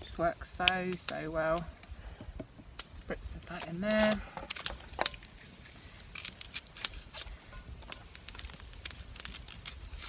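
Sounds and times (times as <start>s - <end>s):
camp cooking gear clicking: 0.0s - 10.0s.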